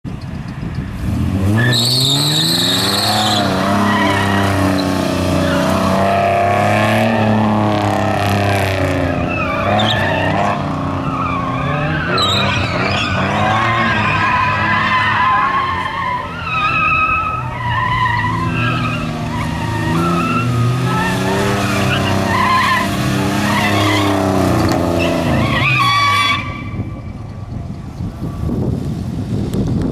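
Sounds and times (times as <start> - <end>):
car engine revving: 0.7 - 27.0
tyres squealing: 1.5 - 27.0.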